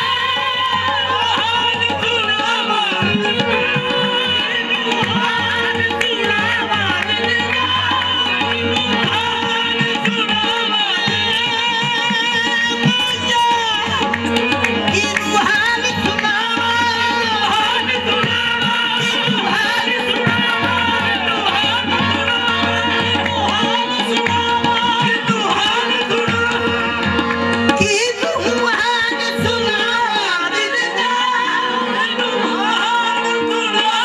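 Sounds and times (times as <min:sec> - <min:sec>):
tabla drumming: 0:00.0 - 0:34.0.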